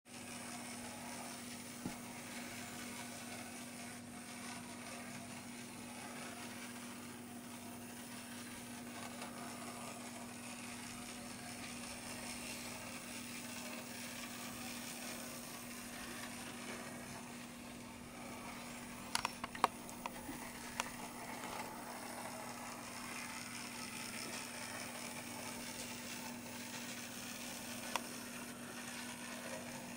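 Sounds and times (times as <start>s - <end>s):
model locomotive motor humming: 0.1s - 29.9s.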